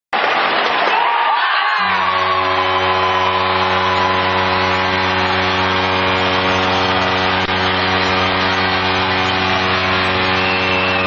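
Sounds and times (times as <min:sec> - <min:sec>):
low goal horn blast: 0:01.8 - 0:11.0.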